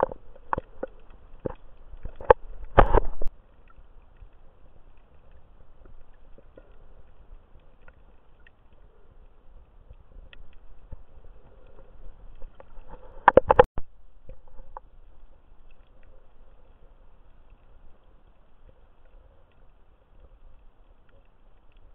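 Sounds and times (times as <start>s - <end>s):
faint clicks: 0.0s - 21.9s
underwater rumble: 0.0s - 21.9s.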